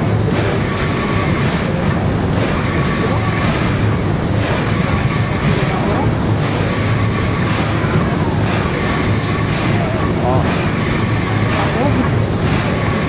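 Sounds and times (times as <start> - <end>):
constant low hum: 0.0 - 13.0
steam engine and paddle wheels churning: 0.0 - 13.0.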